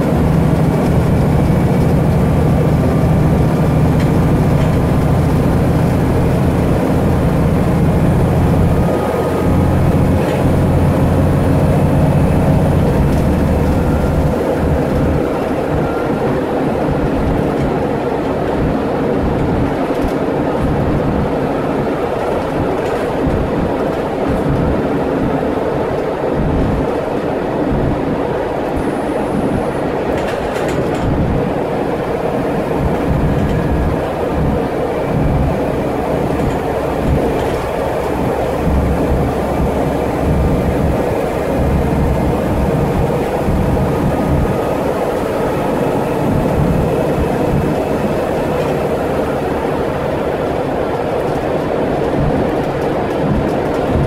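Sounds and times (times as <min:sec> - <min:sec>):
road and body noise: 0:00.0 - 0:24.8, 0:28.7 - 0:54.0
bus diesel engine droning: 0:00.0 - 0:54.0.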